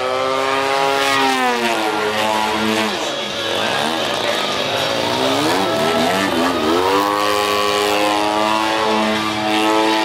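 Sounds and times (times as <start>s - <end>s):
model airplane engine: 0.0s - 10.0s.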